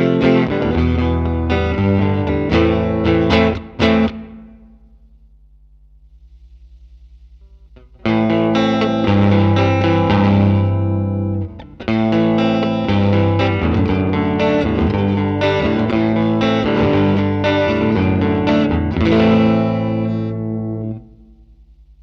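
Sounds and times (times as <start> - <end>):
electric guitar chords and notes: 0.0 - 5.0, 7.4 - 21.5.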